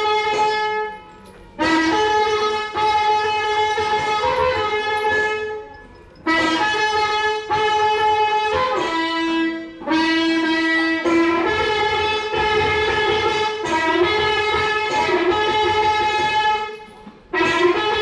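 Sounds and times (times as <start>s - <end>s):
wind instrument melody: 0.0s - 18.0s.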